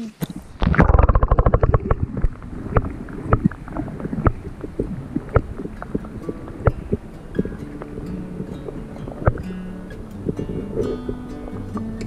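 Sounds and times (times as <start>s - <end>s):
muffled underwater rumble: 0.3s - 12.0s.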